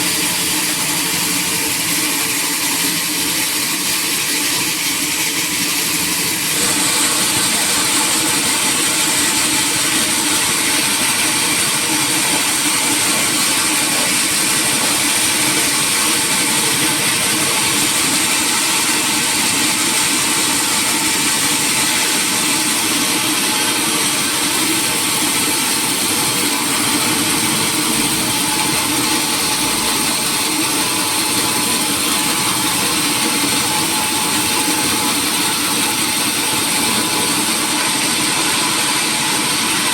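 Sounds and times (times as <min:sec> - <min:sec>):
high machine whine: 0:00.0 - 0:39.9
sawmill machinery running: 0:00.0 - 0:39.9.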